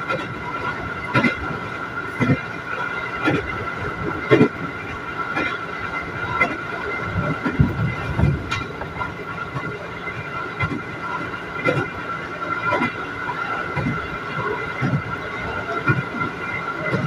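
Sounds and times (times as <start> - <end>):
train high whine: 0.0 - 17.0
train running noise: 0.0 - 17.0.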